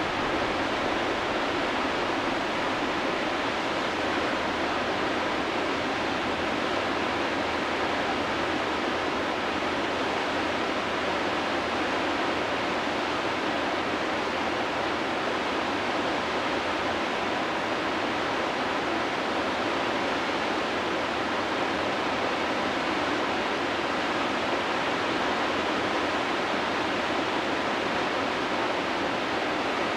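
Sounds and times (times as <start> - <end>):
river rapids rushing: 0.0 - 29.9.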